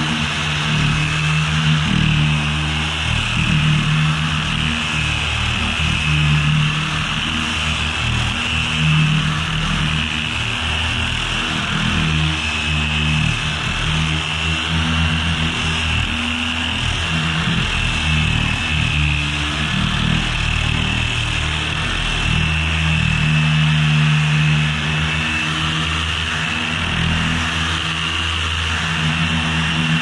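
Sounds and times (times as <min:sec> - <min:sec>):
orbital sander whining: 0:00.0 - 0:30.0.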